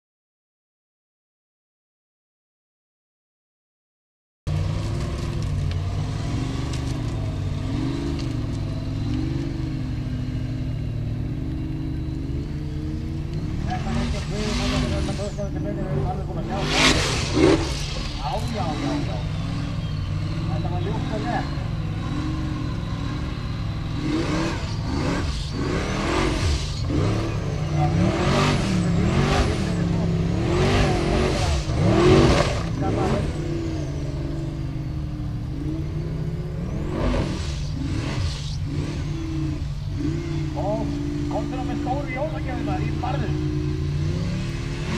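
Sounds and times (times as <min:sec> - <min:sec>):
buggy engine running hard: 0:04.5 - 0:44.9.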